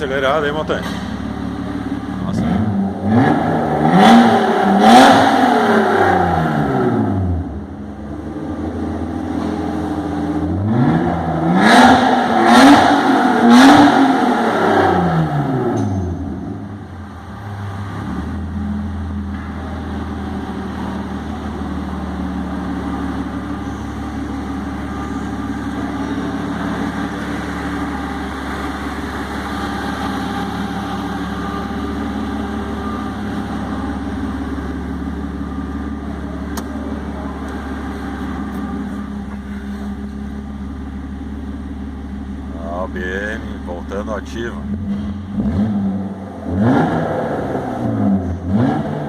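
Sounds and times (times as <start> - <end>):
car engine idling: 0.0 - 48.7.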